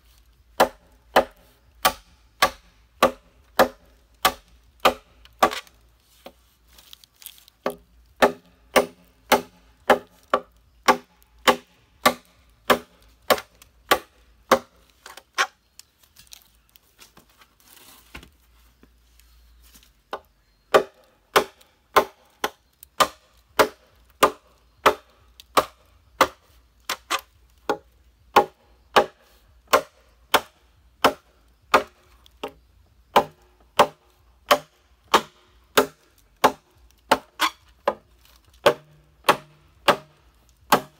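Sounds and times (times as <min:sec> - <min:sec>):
machete chopping bamboo: 0:00.5 - 0:15.6, 0:20.1 - 0:40.9.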